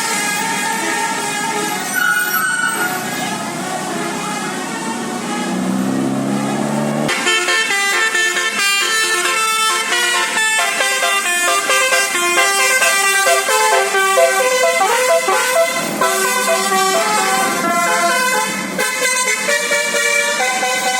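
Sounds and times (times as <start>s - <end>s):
bus melody horn: 0.0s - 20.9s.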